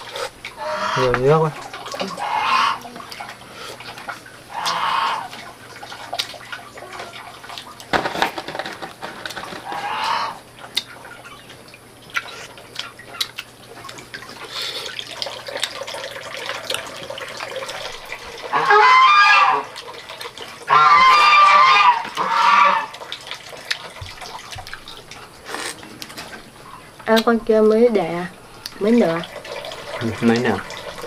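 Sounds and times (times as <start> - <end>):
water pouring and splashing: 0.0 - 31.0.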